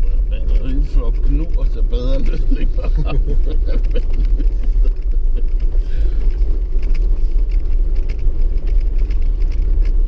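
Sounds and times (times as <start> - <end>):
diesel engine low rumble: 0.0 - 10.0.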